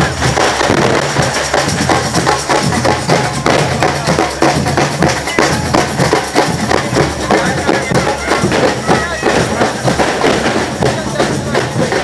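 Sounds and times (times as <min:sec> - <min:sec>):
marching band drums: 0:00.0 - 0:12.0.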